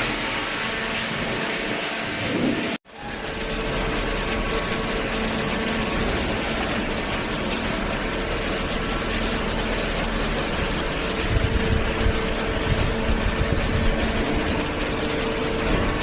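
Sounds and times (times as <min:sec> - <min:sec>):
machinery running: 0:00.0 - 0:16.0.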